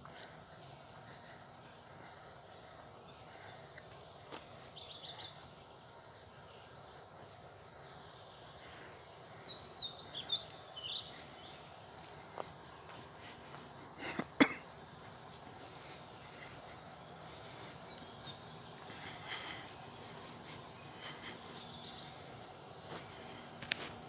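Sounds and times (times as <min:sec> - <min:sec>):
faint outdoor background: 0:00.0 - 0:24.0
songbirds singing: 0:00.0 - 0:24.0.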